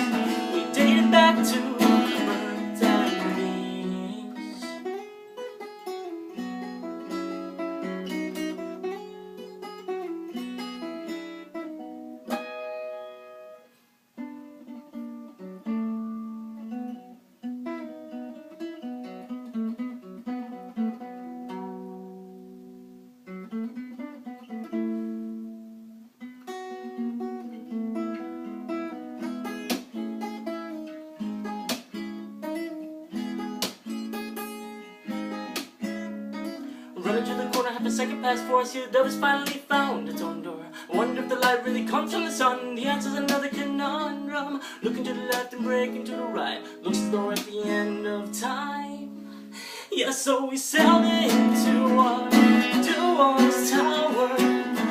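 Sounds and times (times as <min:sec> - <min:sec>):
acoustic guitar playing: 0:00.0 - 0:54.9.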